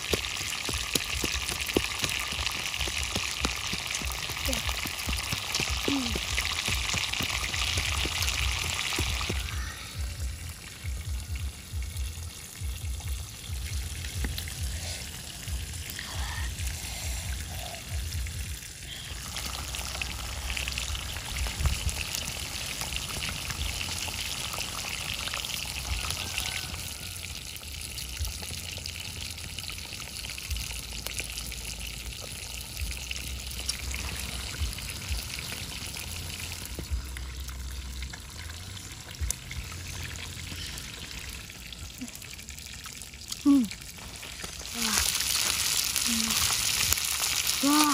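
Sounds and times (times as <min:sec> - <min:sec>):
fish sizzling on hot rock: 0:00.0 - 0:47.9
wood fire crackling: 0:00.0 - 0:47.9.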